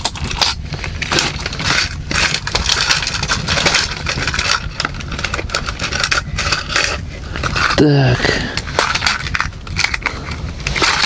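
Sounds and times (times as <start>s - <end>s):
metal lures rattling in plastic box: 0.0s - 11.0s.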